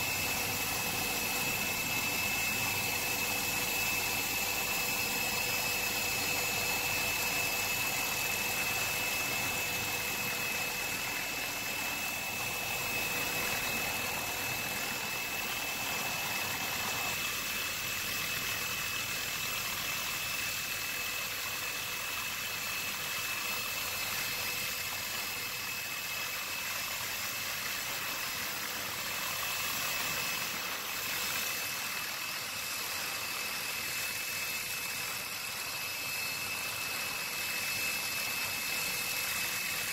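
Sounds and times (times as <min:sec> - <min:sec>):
high engine whine: 0:00.0 - 0:39.9.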